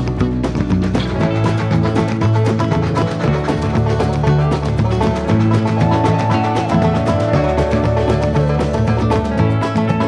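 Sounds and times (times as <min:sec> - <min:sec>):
upbeat plucked guitar music: 0:00.0 - 0:10.0.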